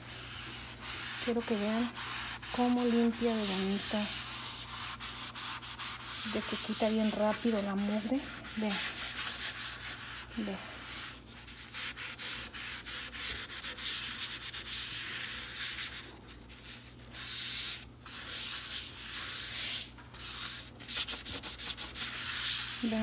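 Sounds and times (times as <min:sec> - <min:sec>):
sponge scrubbing metal stovetop: 0:00.0 - 0:23.0.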